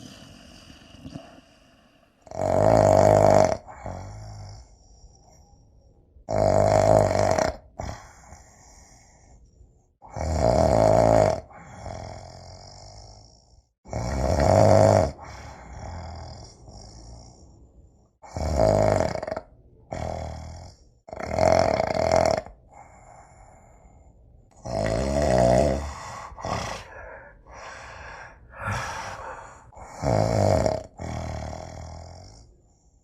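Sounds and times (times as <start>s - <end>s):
person snoring: 0.0s - 5.2s, 6.3s - 9.4s, 10.1s - 17.6s, 18.2s - 32.6s.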